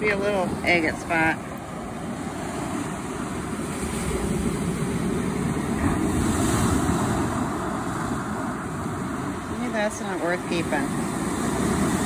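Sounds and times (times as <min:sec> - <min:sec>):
waves surging onto pebble beach: 0:00.0 - 0:12.0.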